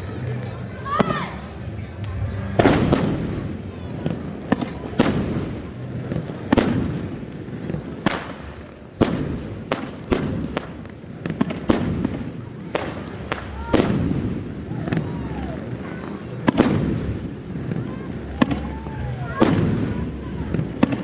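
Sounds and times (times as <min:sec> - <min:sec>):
fireworks bangs echoing: 0:00.8 - 0:21.0.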